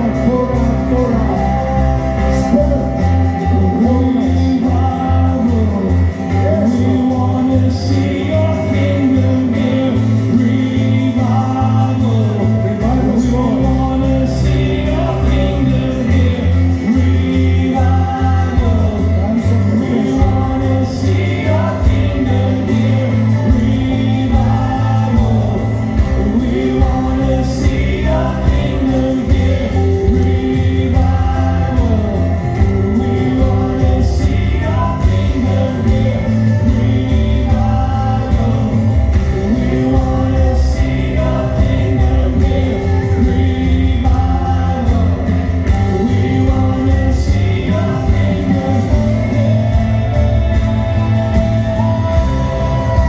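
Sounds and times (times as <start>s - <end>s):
band playing slow sustained chords: 0.0s - 53.0s
people singing: 0.0s - 53.0s.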